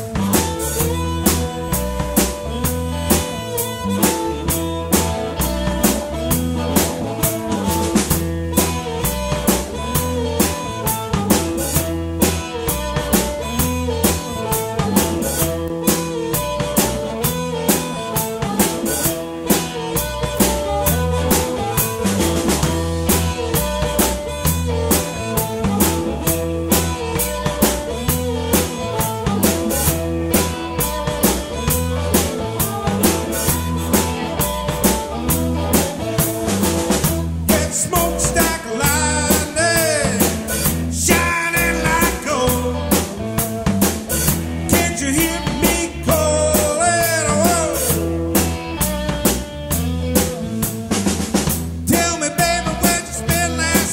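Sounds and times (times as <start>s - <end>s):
blues rock band playing: 0.0s - 53.9s
drum kit beat: 0.0s - 53.9s.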